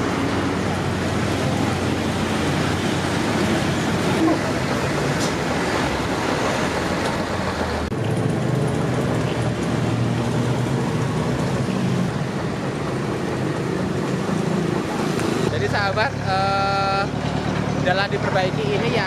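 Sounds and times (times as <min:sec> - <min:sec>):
road roller engine drone: 0:00.0 - 0:19.0.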